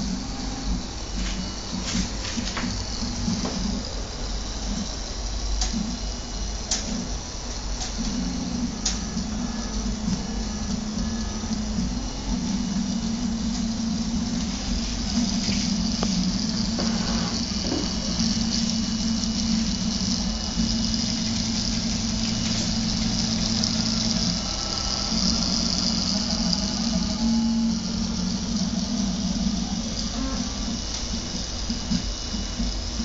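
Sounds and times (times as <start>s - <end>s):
stepper motors humming: 0.0s - 33.0s.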